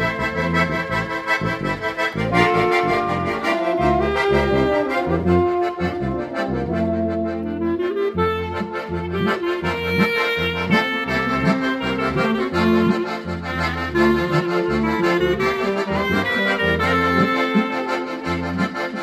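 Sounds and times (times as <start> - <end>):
accordion chords: 0.0 - 19.0
ensemble playing a hymn: 0.0 - 19.0
tuba bass line: 0.0 - 19.0.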